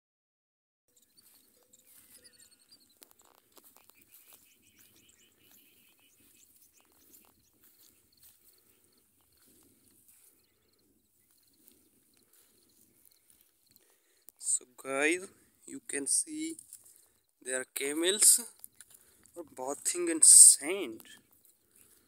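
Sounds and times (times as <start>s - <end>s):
distant bird chirps: 0.9s - 22.0s.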